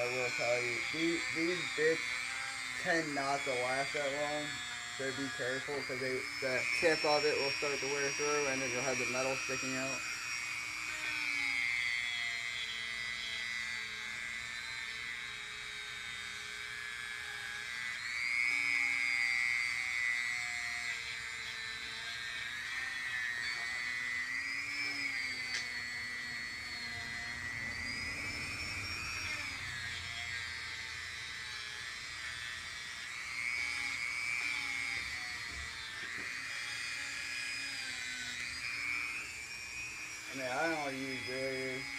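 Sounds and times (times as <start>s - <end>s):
die grinder whining on metal: 0.0s - 41.9s.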